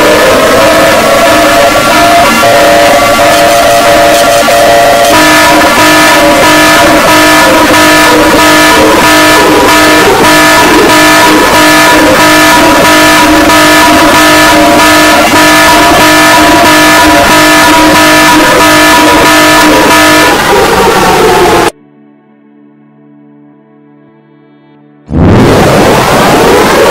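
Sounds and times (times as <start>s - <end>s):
electronic emergency alarm: 0.0s - 21.7s.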